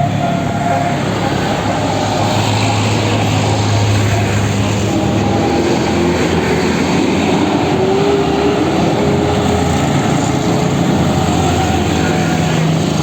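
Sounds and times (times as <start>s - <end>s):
bus diesel engine under load: 0.0s - 13.0s.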